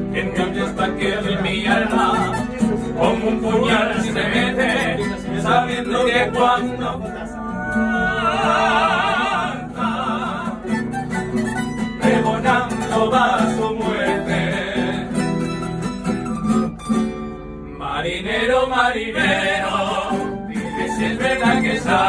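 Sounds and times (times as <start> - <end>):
men singing: 0.0 - 10.9, 12.0 - 15.5, 17.8 - 22.0
acoustic guitars and lute: 0.0 - 22.0.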